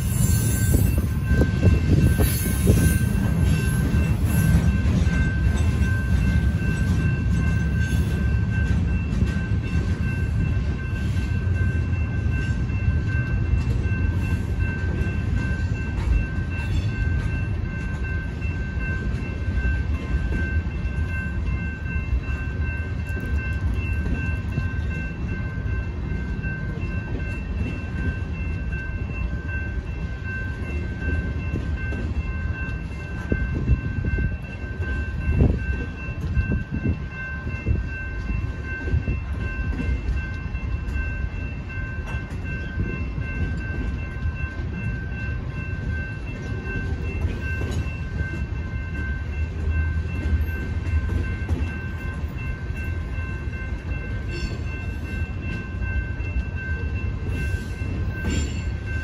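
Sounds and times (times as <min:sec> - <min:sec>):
crossing warning bell ringing: 0:00.0 - 0:59.0
train wheels rumbling on rail: 0:00.0 - 0:59.0.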